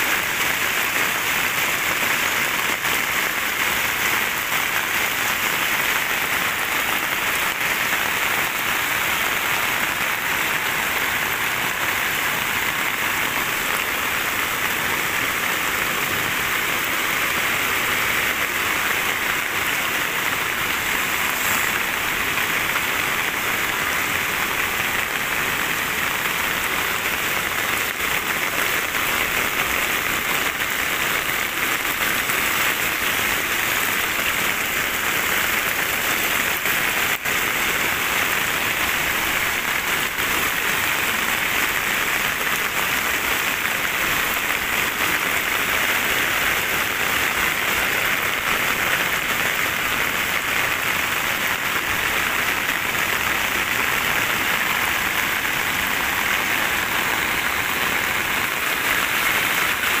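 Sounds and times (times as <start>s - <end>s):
heavy rain pouring: 0.0s - 60.0s.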